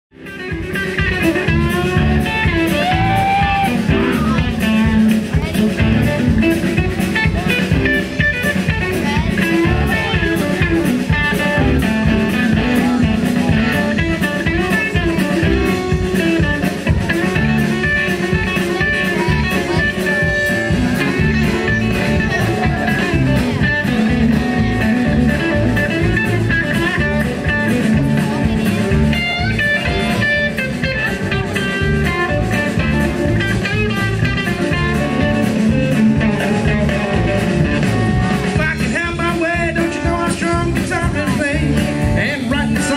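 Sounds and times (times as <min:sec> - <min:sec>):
blues-rock music: 0:00.1 - 0:42.9.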